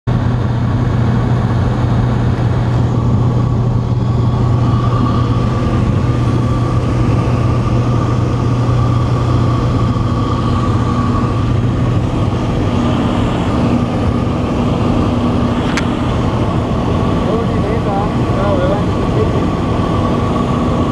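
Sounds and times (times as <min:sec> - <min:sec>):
propeller plane engine droning: 0:00.1 - 0:20.9.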